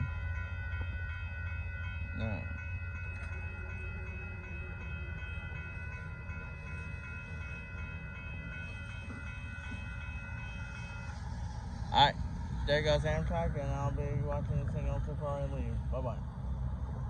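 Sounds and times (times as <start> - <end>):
crossing warning bell ringing: 0.0 - 17.0
passenger train rumbling: 0.0 - 17.0.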